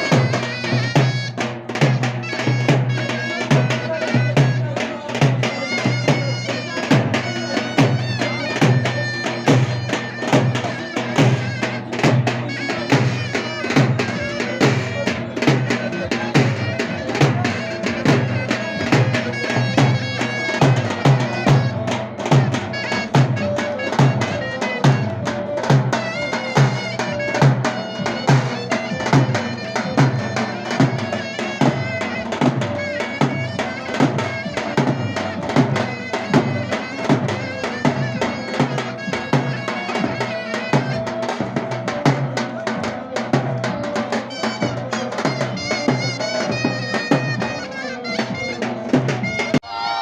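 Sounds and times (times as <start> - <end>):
zurna reedy melody: 0.0 - 49.7
davul drum beating: 0.0 - 49.8.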